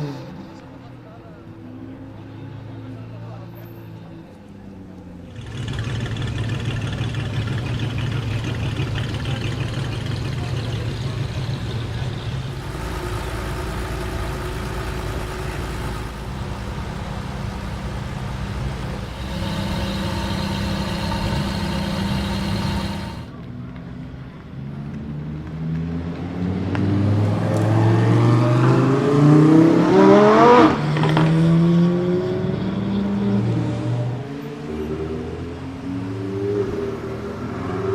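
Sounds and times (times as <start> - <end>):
car engine accelerating: 4.0 - 37.9.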